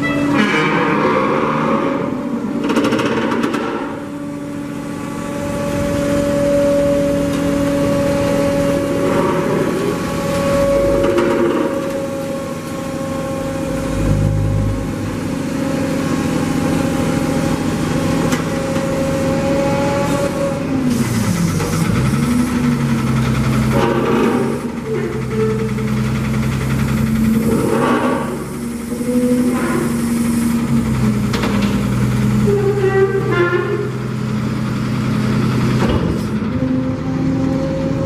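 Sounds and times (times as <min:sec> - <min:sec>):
hydraulic system humming: 0:00.0 - 0:38.0.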